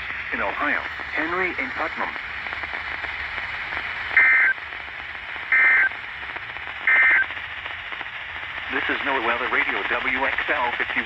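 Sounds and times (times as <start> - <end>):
receiver hiss: 0.0 - 11.0.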